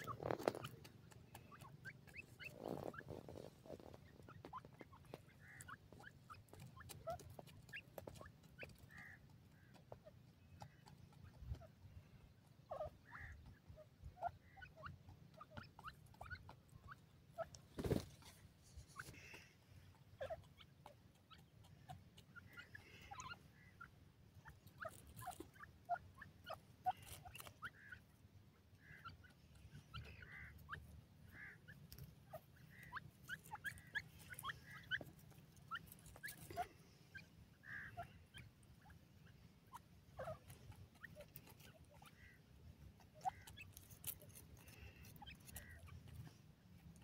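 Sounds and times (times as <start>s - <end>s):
birds chirping: 0.0s - 47.0s
birds pecking soil clicks: 0.0s - 47.0s.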